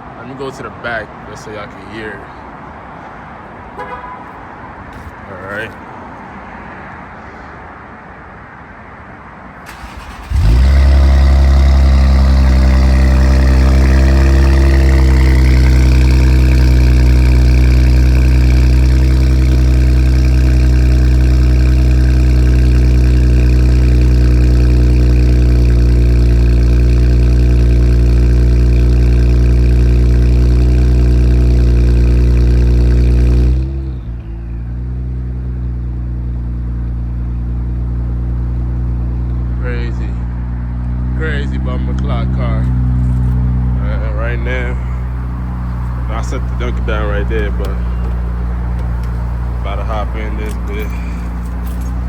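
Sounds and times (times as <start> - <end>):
car engine starting and idling: 9.5 - 52.0.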